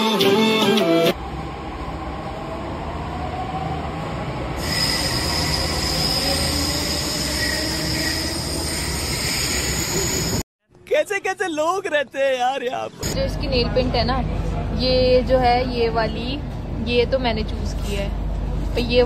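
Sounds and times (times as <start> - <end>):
train rumbling: 1.1 - 10.4, 13.0 - 19.0.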